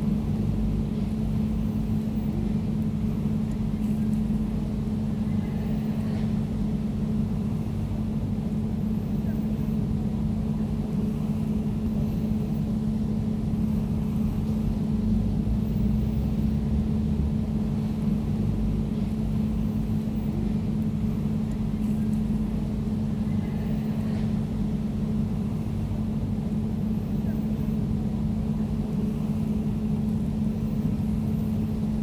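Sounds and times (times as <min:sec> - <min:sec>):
air conditioner humming: 0:00.0 - 0:32.0.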